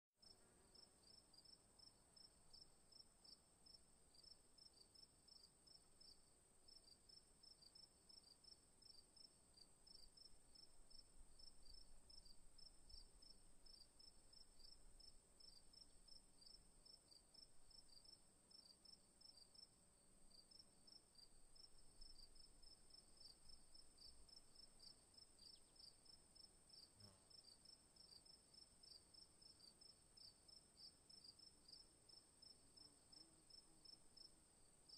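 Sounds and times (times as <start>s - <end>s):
insect chirping: 0.2s - 34.9s.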